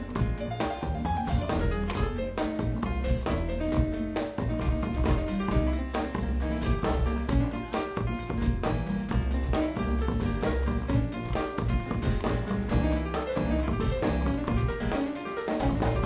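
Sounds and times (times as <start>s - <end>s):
drum kit beat: 0.0s - 16.0s
electric keyboard: 0.0s - 16.0s
upright bass: 0.0s - 16.0s.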